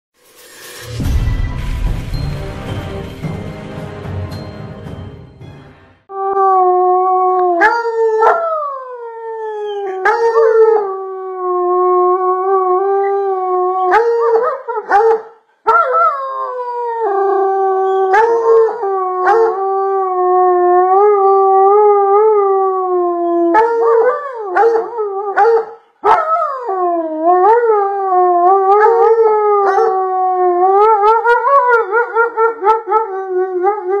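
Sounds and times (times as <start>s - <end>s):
dog howling: 6.3s - 34.0s.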